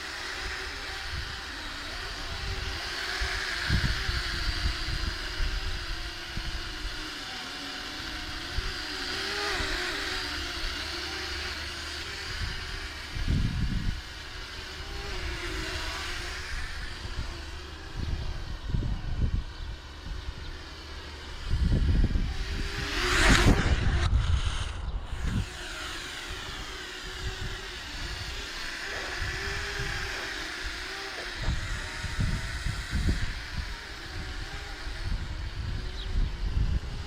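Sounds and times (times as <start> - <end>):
drone propellers buzzing: 0.0 - 37.0.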